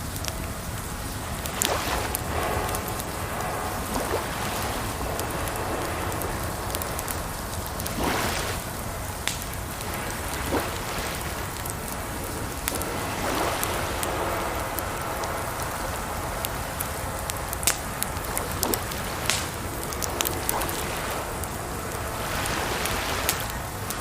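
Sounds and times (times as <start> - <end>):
campfire crackling and popping: 0.0 - 24.0
running water gurgling: 0.0 - 24.0.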